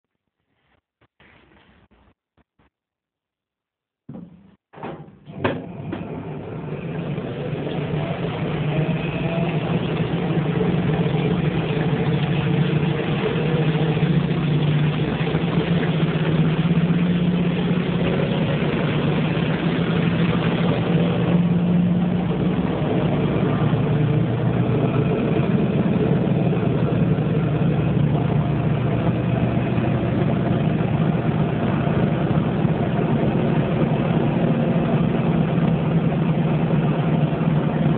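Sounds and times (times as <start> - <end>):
washing machine motor humming: 4.1 - 37.9.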